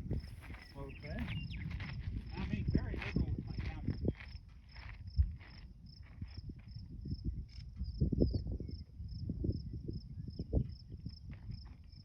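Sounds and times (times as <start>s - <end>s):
insect chirping: 0.0s - 12.0s
low thumps and rumbles: 0.0s - 12.0s.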